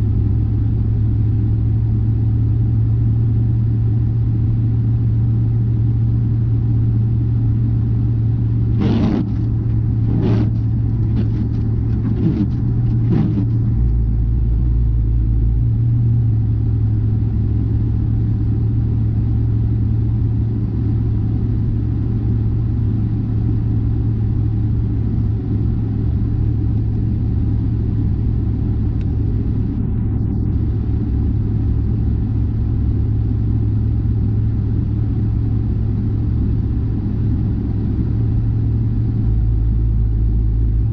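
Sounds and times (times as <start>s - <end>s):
car driving on highway: 0.0s - 40.9s.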